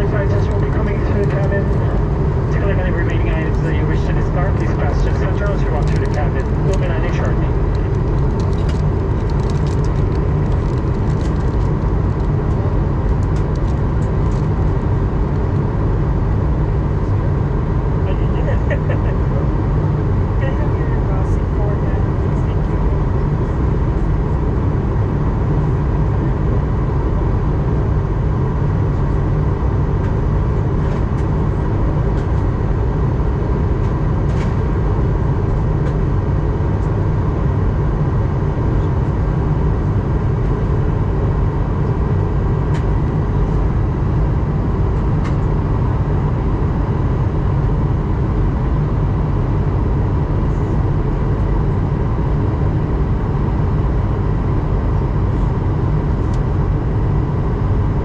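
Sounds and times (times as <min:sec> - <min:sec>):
airplane cabin roar: 0:00.0 - 0:58.0.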